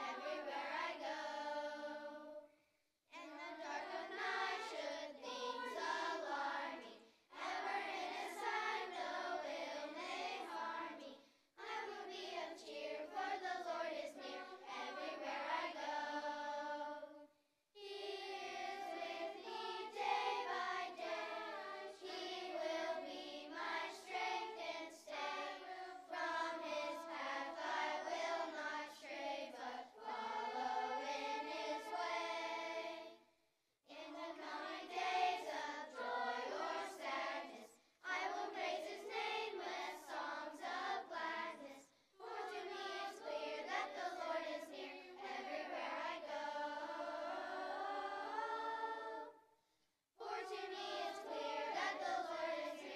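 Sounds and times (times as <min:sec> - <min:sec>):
children's choir singing: 0:00.0 - 0:02.5, 0:03.1 - 0:33.2, 0:33.9 - 0:49.5, 0:50.2 - 0:52.9.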